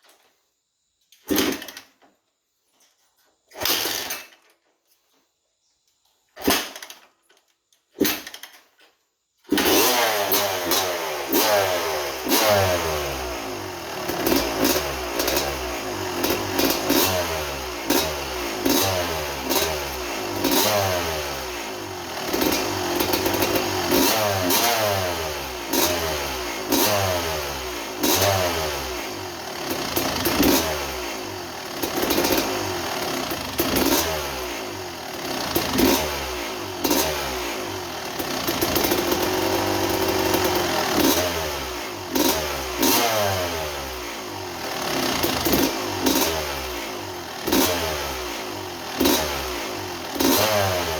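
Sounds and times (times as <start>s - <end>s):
two-stroke motorcycle engine revving: 3.6s - 4.2s, 9.5s - 50.9s.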